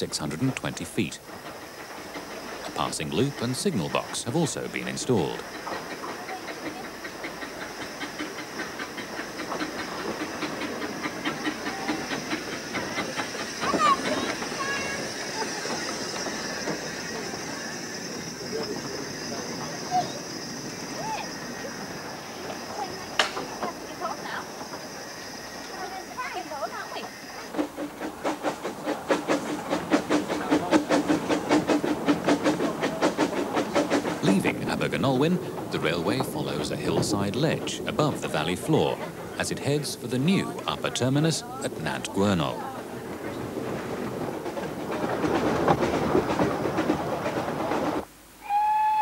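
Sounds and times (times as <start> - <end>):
steam hiss: 0.0 - 49.0
steam locomotive running: 0.0 - 49.0.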